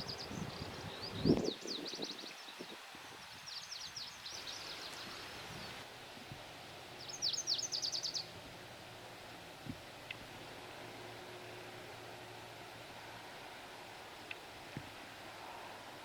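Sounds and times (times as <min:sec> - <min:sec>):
songbird singing: 0:00.0 - 0:05.9, 0:06.6 - 0:16.0.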